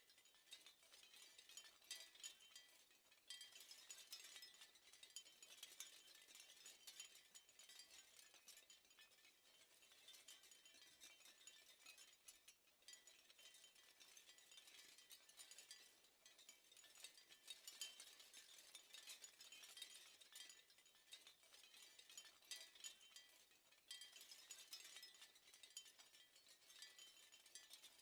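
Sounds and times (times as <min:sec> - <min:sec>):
faint high clicking and tinkling: 0:00.0 - 0:28.0.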